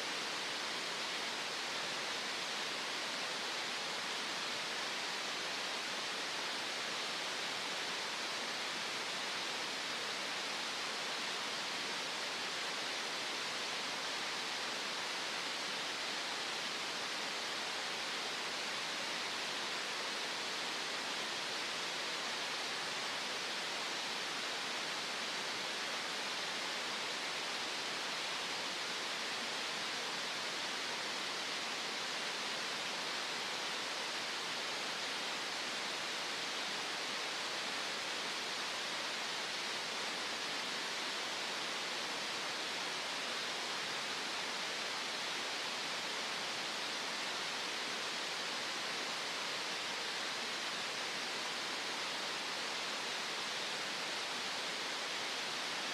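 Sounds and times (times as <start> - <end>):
green noise hiss: 0.0 - 55.9.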